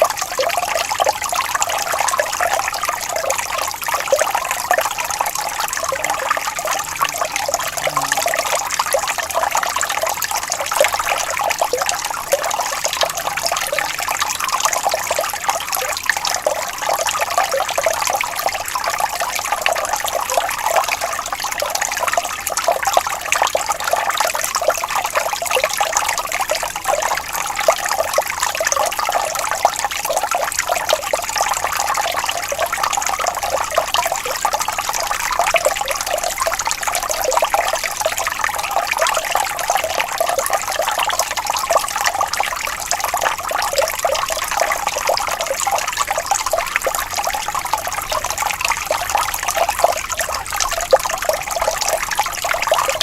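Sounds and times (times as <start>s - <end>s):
water trickling over stones: 0.0s - 53.0s.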